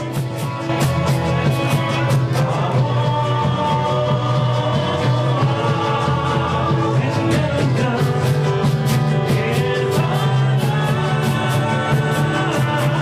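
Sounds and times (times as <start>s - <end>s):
band playing music: 0.0s - 13.0s
steady drum beat: 0.0s - 13.0s.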